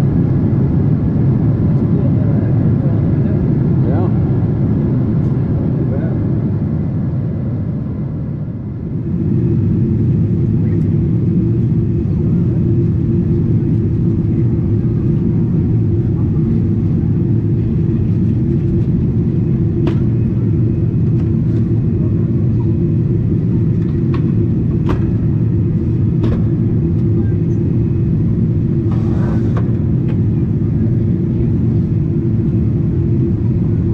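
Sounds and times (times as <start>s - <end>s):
jet cabin rumble: 0.0s - 33.9s.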